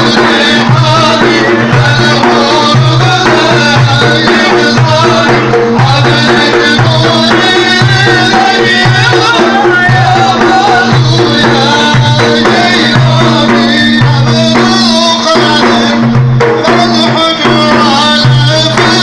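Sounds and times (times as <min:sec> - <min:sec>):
frame drums with jingles: 0:00.0 - 0:19.0
man chanting a hymn: 0:00.0 - 0:19.0.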